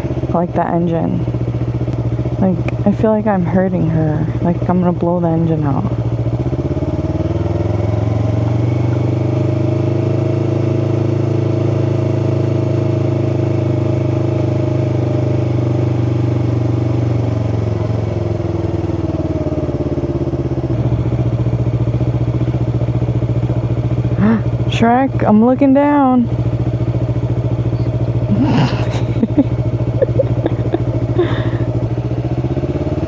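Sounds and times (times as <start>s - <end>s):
motorcycle engine at high revs: 0.0s - 33.0s.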